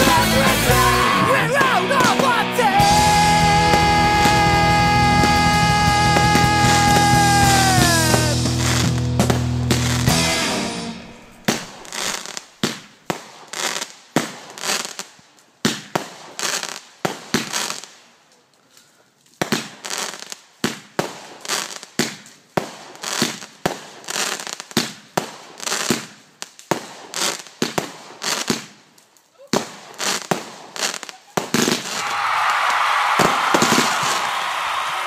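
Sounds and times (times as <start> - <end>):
fireworks bangs: 0.0 - 18.0, 19.4 - 28.8, 29.4 - 35.0.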